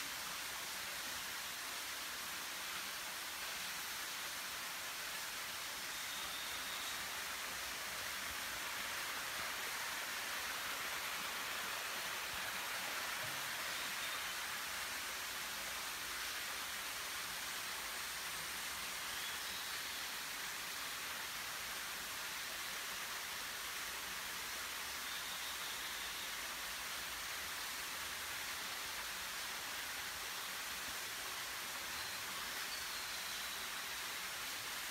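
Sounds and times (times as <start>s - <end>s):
waterfall rushing hiss: 0.0s - 34.9s.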